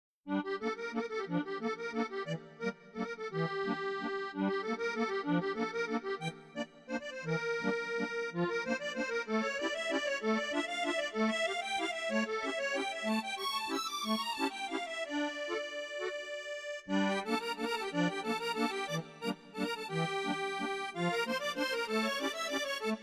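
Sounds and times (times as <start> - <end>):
lively accordion music: 0.3 - 23.0.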